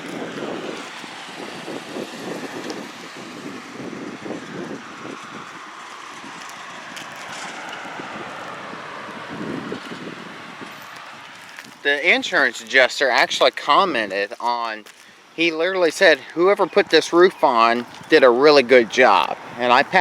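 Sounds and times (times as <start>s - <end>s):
vehicle road noise: 0.0s - 20.0s
wind buffeting microphone: 0.0s - 20.0s.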